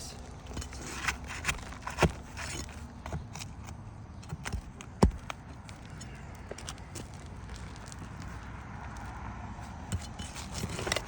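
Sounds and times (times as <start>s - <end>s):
tool scraping shingles: 0.4s - 11.0s.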